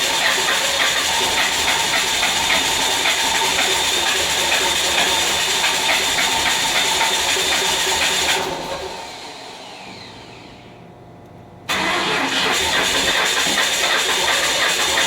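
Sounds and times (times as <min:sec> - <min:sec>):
van engine with harsh pulsing noise: 0:00.0 - 0:10.8, 0:11.7 - 0:15.0.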